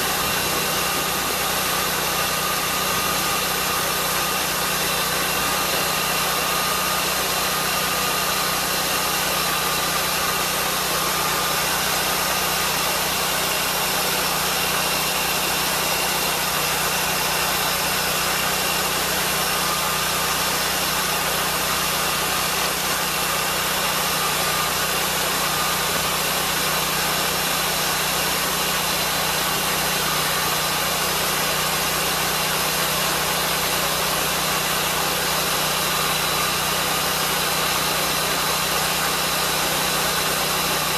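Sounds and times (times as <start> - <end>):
sawmill sawing through log: 0.0 - 40.9.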